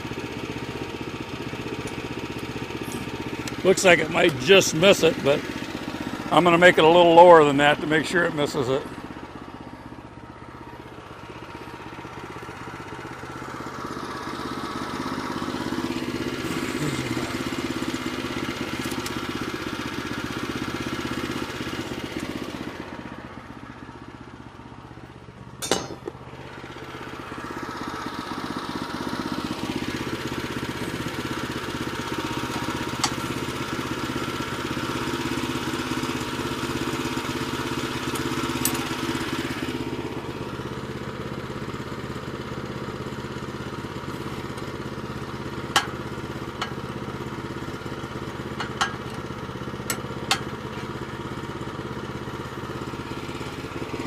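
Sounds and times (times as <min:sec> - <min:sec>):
sawmill gasoline engine running: 0:00.0 - 0:54.0.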